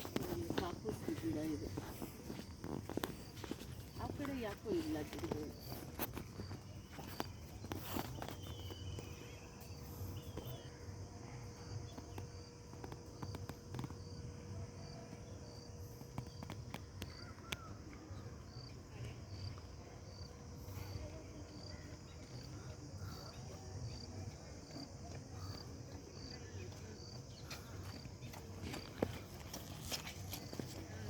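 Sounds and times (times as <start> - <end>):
cricket chirping: 0.0 - 31.0
faint outdoor background noise: 0.0 - 31.0.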